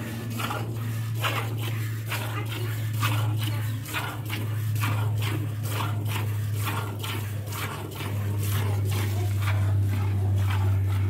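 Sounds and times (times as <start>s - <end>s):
milk squirting into bucket: 0.0s - 11.0s
steady low hum: 0.0s - 11.0s.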